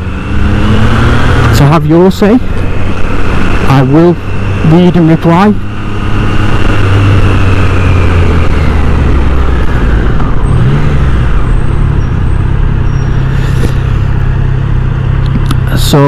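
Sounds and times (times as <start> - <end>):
wind noise: 0.0 - 15.8
motorcycle engine running: 0.0 - 16.0.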